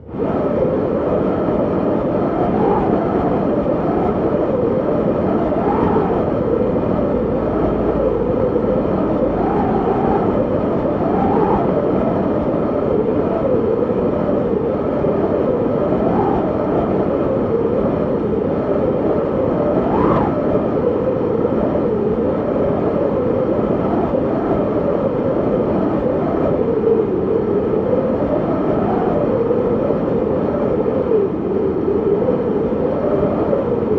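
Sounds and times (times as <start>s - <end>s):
strong wind whistling: 0.0s - 33.9s.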